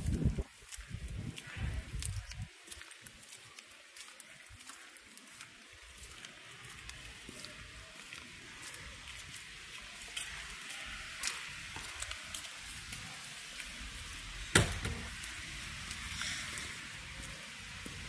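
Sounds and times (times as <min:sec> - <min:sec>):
footsteps crunching in snow: 0:00.0 - 0:18.0
crackly hiss: 0:00.2 - 0:18.0.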